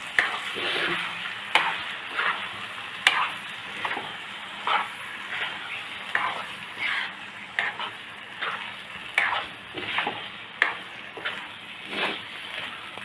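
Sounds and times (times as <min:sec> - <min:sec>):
frying sizzle: 0:00.0 - 0:13.0
spatula scraping a wok: 0:00.0 - 0:13.0.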